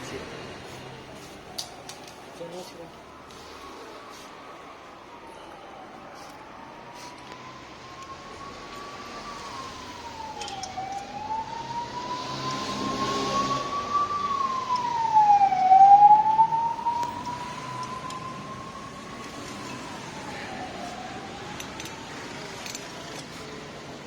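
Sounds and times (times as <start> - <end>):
emergency vehicle siren wailing: 1.1 - 24.0.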